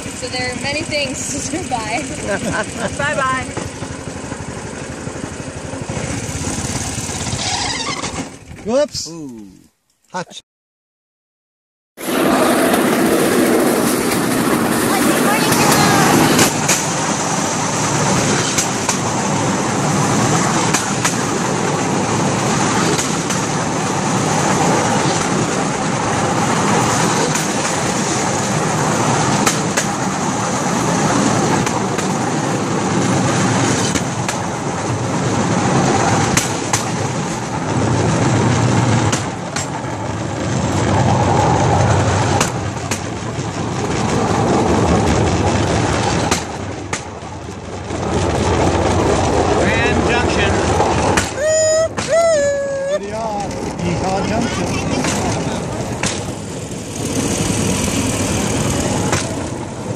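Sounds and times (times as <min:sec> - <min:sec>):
wheels clicking over rail joints: 0:00.0 - 0:08.9, 0:12.0 - 0:59.9
engine and platform rattle: 0:00.0 - 0:09.1, 0:12.0 - 0:59.9.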